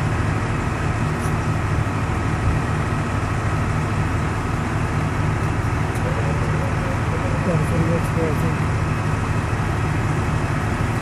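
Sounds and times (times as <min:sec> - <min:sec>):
diesel engine idling: 0:00.0 - 0:11.0
thin steady whine: 0:00.0 - 0:11.0.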